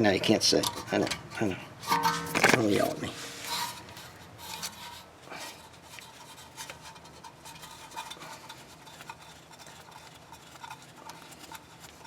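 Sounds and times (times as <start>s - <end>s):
hand tools scraping: 1.8s - 12.0s.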